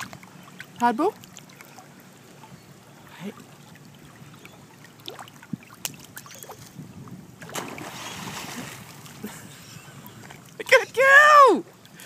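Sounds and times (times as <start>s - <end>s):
small splashes: 0.0s - 6.8s, 7.4s - 12.0s
water lapping and trickling: 0.0s - 12.0s.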